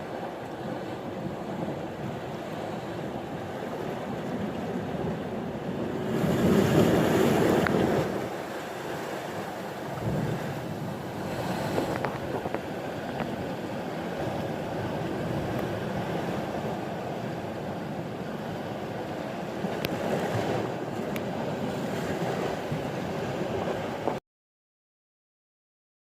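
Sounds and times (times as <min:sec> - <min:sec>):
sea surf rushing: 0:00.0 - 0:24.2
wind: 0:00.0 - 0:24.2.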